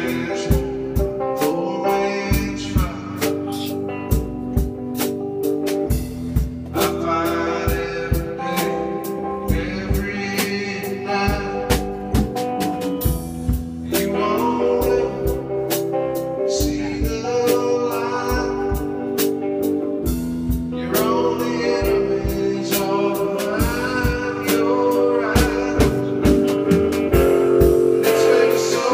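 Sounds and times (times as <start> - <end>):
drum kit steady beat: 0.0 - 28.9
sustained guitar notes: 0.0 - 28.9.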